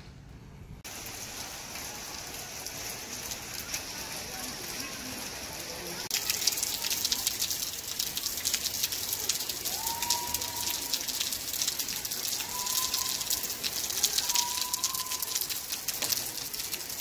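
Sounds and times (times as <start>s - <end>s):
rain spattering on hard surface: 0.8s - 17.0s.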